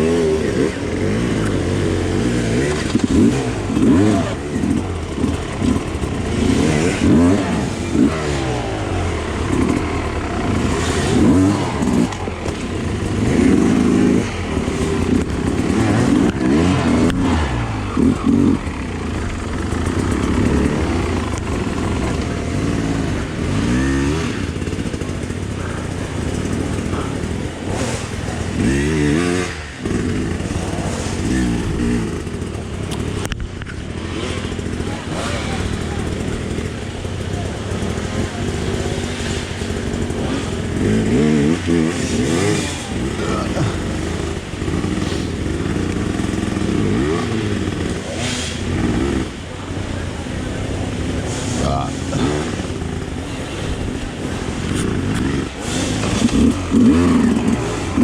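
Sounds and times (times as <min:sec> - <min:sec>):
clatter: 0:00.0 - 0:58.0
motorcycle engine revving: 0:00.0 - 0:58.0.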